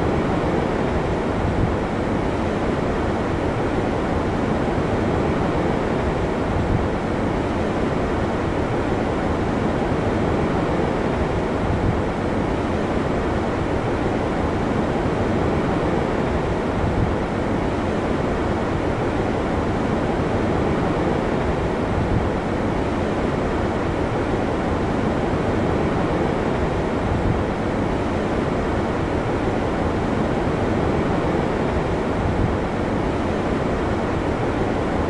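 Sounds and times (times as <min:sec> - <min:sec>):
rough sea surf: 0:00.0 - 0:35.0
wind: 0:00.0 - 0:35.0.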